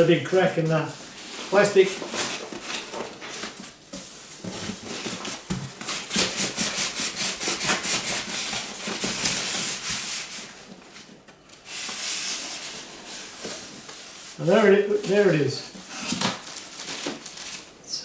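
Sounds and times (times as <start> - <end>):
packaging scraping and rubbing: 0.0 - 17.8.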